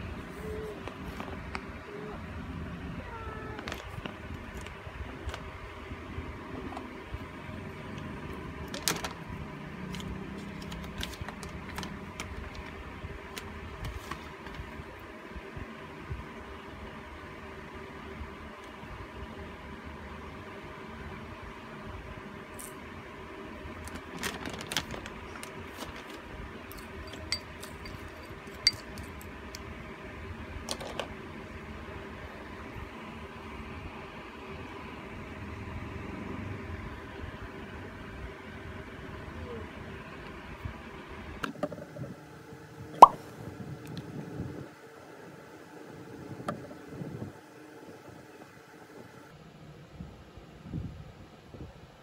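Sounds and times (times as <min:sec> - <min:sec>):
fan-like hum: 0:00.0 - 0:52.0.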